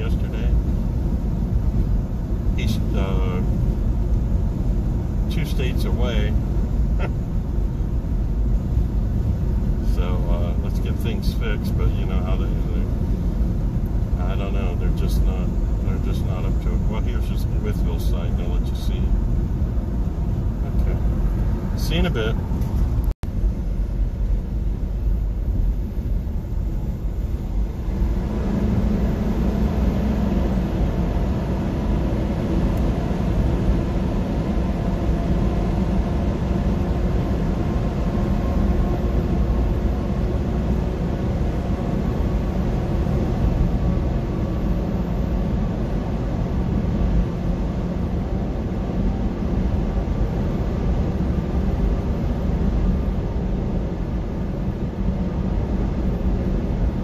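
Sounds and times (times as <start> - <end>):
road and tyre noise in car: 0.0 - 57.0.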